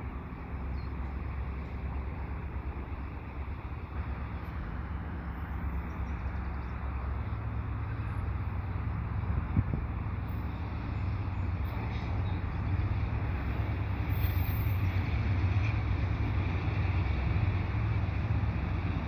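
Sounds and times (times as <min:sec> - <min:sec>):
locomotive engine drone: 0:00.0 - 0:19.0
rumble of moving train: 0:00.0 - 0:19.0.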